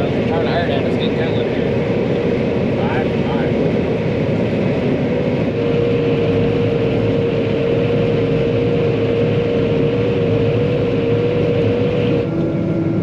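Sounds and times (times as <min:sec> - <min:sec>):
diesel engine running: 0:00.0 - 0:13.0
high whine: 0:00.0 - 0:13.0.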